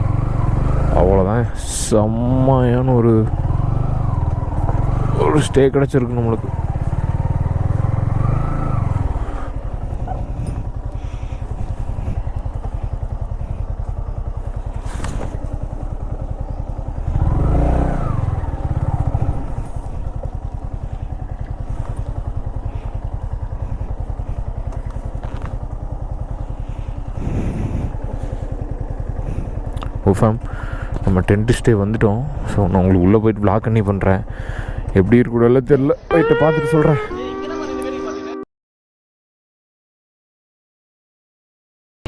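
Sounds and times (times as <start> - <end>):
motorcycle engine revving: 0.0 - 35.2, 36.0 - 38.1.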